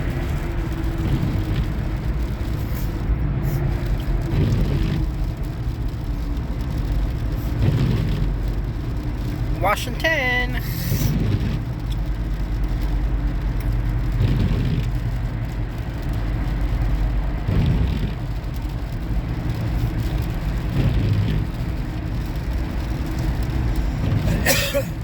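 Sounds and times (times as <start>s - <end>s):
vehicle interior road rumble: 0.0s - 25.0s.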